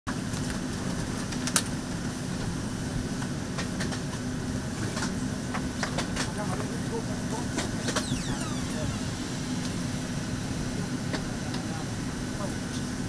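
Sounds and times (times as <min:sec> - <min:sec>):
airliner cabin hum: 0:00.1 - 0:13.0.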